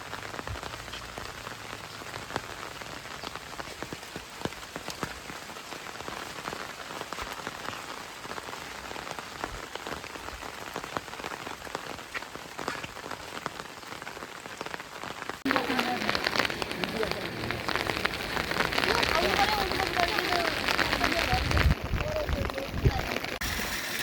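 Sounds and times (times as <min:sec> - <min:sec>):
raindrops ticking close by: 0:00.0 - 0:23.9
rain hissing: 0:00.0 - 0:24.0.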